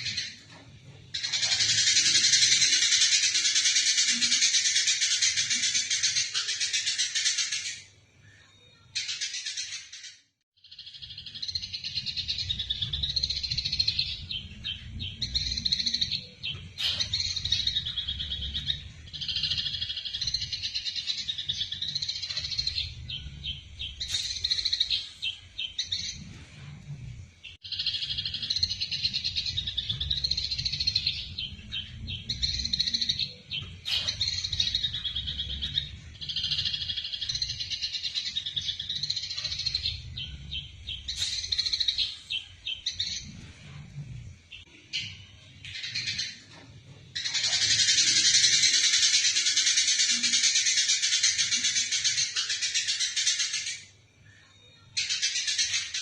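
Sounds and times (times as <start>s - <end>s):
sparrows chattering: 0.0s - 56.0s.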